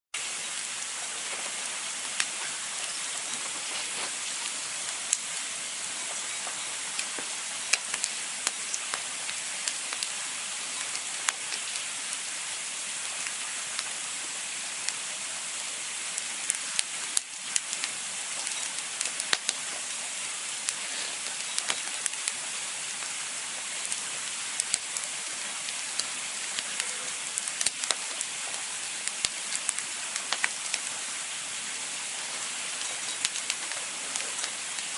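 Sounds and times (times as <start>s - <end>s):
campfire crackling and popping: 0.2s - 34.9s.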